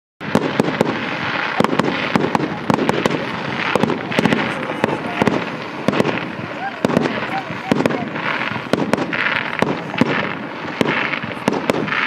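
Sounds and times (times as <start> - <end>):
constant rushing crackle: 0.2 - 12.0
fireworks bangs and crackles: 0.2 - 12.0.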